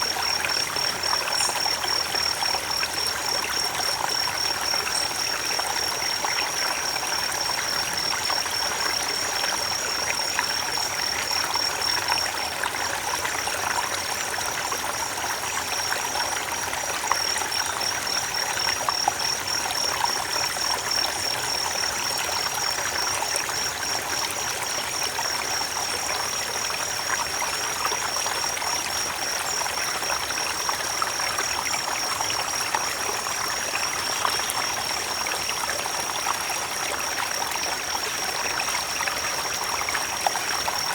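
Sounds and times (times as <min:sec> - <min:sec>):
stream trickling: 0:00.0 - 0:40.9.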